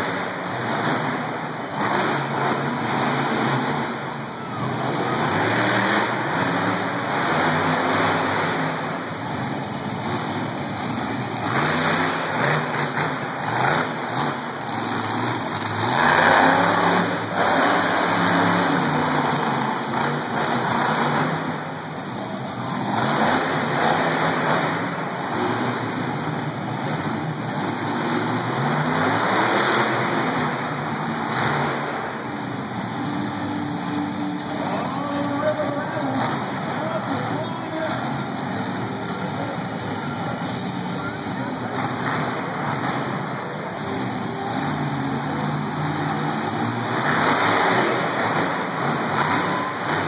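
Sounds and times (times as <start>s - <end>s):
monster truck engines revving: 0.0s - 50.0s.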